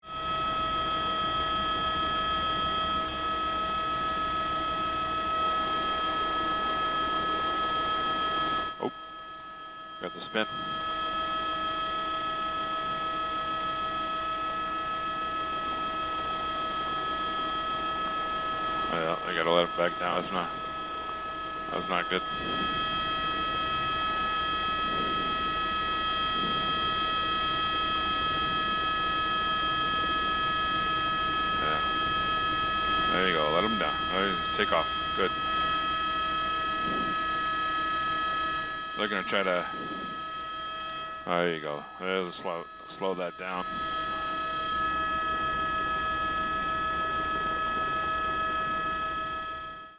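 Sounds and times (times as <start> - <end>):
helicopter rotor rumble: 0.0 - 49.9
helicopter turbine whine: 0.0 - 49.9.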